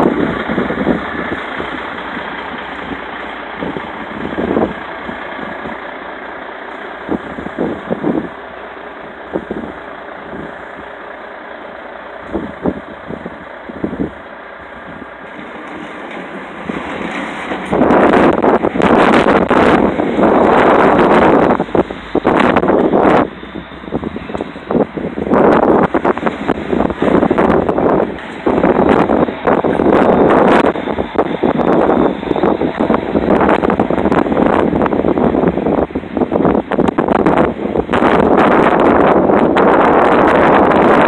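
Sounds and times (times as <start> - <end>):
diesel truck engine running: 0.0 - 41.0
wind buffeting microphone: 0.0 - 41.0.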